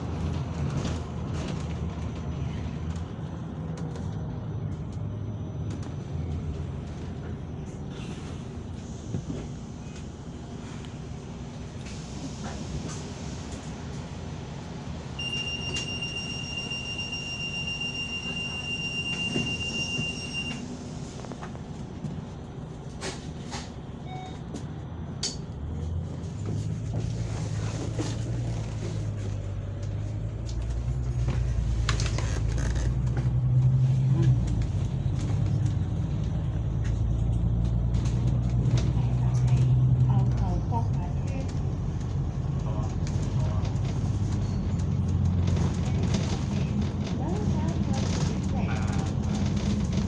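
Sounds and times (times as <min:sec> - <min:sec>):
vehicle ride noise: 0:00.0 - 0:50.0.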